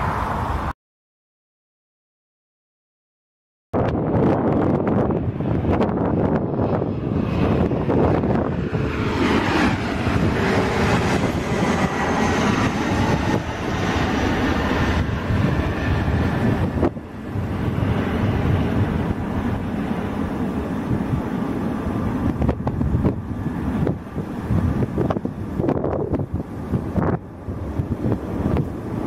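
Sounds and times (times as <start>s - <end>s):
jet passing overhead: 0.0s - 0.8s, 3.8s - 29.0s
steady rumble: 3.8s - 29.0s
wind on microphone: 3.8s - 29.0s.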